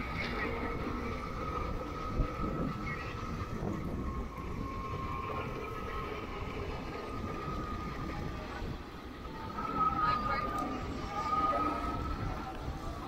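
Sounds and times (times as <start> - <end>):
electric bike motor whining: 0.0 - 13.0
wind and road noise: 0.0 - 13.0.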